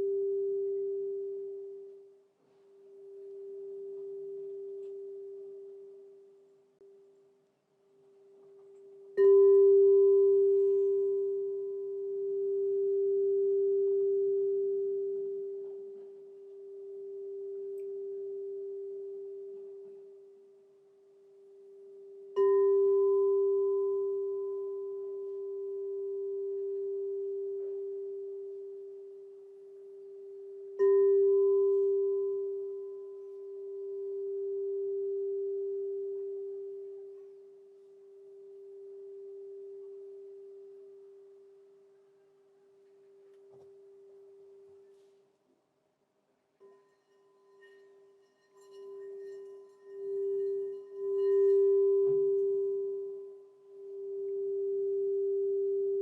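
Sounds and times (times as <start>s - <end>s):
crystal singing bowl ringing: 0.0s - 2.2s, 2.9s - 6.4s, 8.6s - 41.9s, 46.6s - 56.0s.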